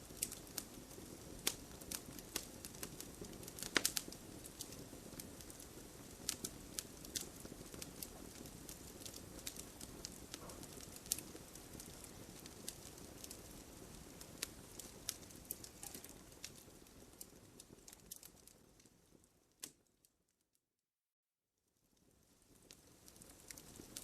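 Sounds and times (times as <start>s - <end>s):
campfire crackling and popping: 0.0s - 20.0s, 21.9s - 24.0s.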